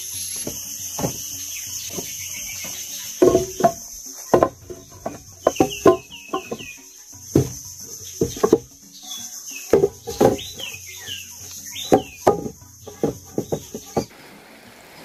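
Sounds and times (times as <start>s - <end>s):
bird chirps: 0.0s - 14.1s
high insect drone: 0.0s - 14.1s
knocks and thumps: 0.4s - 8.8s, 9.7s - 10.8s, 11.4s - 14.1s.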